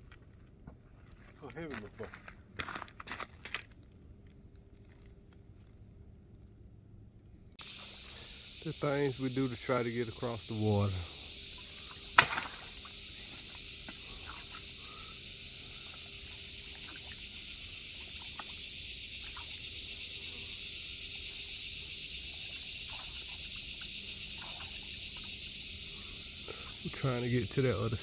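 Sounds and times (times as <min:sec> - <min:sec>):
insects chorus hissing: 0:04.4 - 0:28.0.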